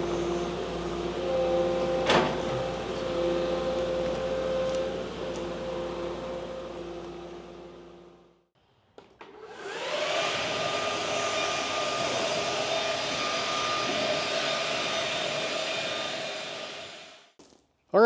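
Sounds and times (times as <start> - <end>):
motor whine: 0.0 - 8.3, 9.3 - 17.3.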